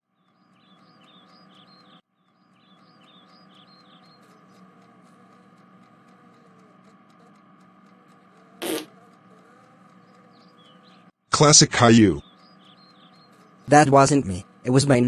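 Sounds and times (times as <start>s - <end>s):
faint bird chirping: 0.1s - 15.0s.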